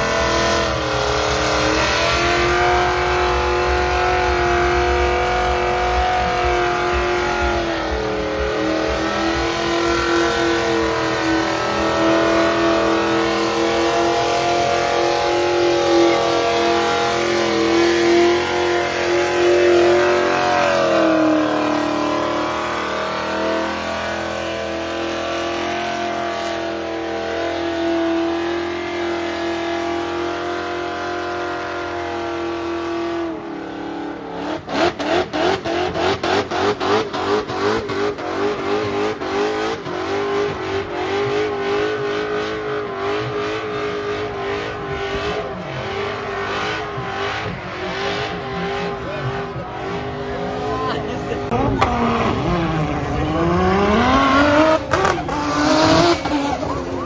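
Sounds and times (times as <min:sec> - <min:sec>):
car engine revving at high revs: 0:00.0 - 0:57.0.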